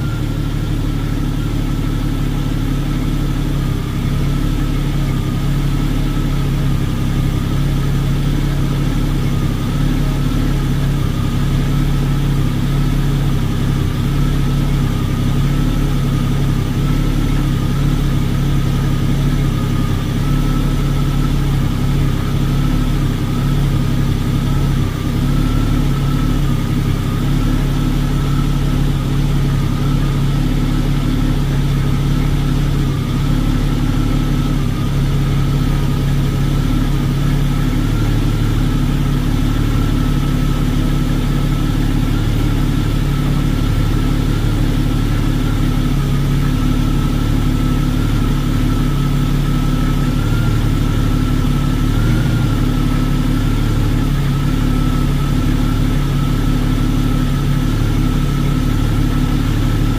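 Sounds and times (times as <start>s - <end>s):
car engine idling: 0.0s - 59.9s
thin steady whine: 0.0s - 59.9s.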